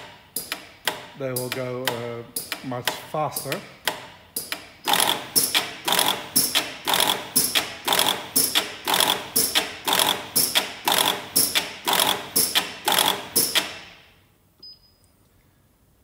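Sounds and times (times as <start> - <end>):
machine sharp clacks: 0.0 - 14.0.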